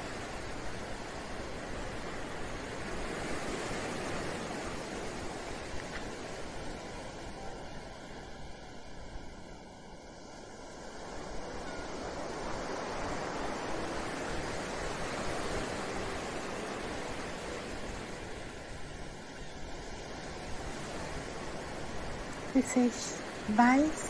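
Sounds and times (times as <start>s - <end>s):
ocean waves washing: 0.0s - 24.0s.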